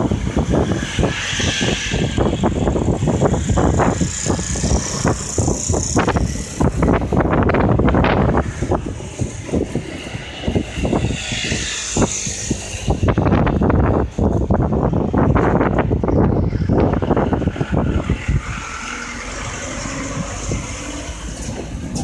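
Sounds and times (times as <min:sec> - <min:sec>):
low train rumble: 0:00.0 - 0:22.0.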